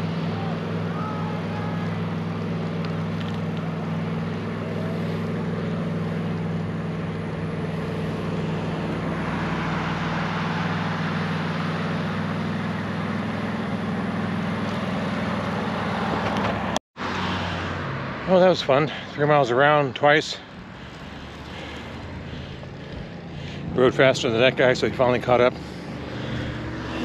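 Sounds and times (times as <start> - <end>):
bicycle riding hum: 0.0 - 27.0.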